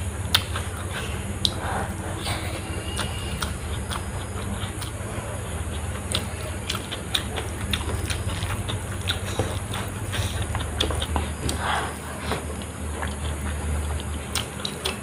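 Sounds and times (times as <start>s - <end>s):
mouth-full chewing: 0.0s - 15.0s
steady low hum: 0.0s - 15.0s.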